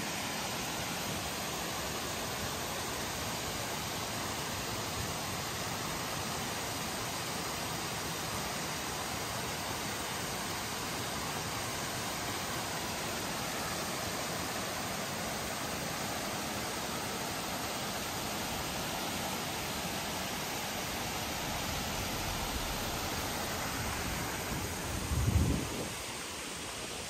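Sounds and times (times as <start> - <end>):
fast-flowing stream rushing: 0.0 - 27.0.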